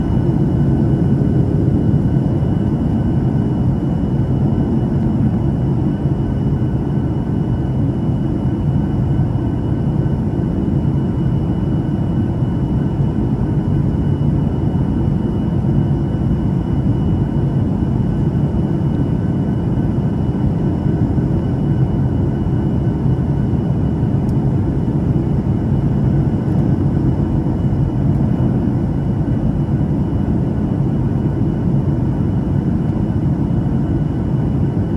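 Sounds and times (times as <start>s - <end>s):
low rumble of airflow and engines: 0.0s - 34.9s.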